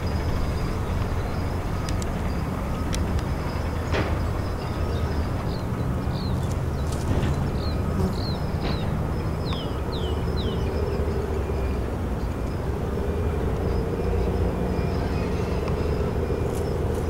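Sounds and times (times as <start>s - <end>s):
distant train rumbling: 0.0s - 17.0s.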